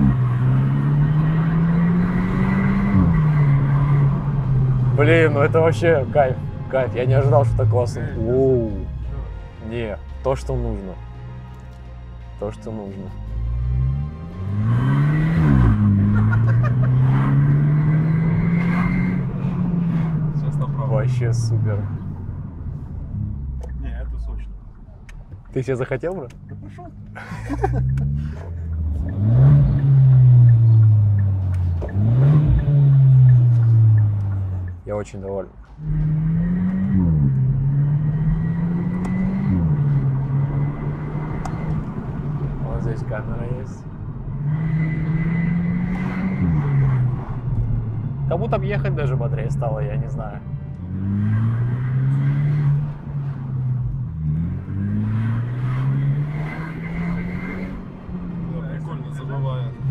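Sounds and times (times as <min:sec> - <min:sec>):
car engine droning under throttle: 0:00.0 - 0:09.4, 0:13.4 - 0:23.8, 0:26.4 - 0:34.9, 0:35.7 - 0:59.9.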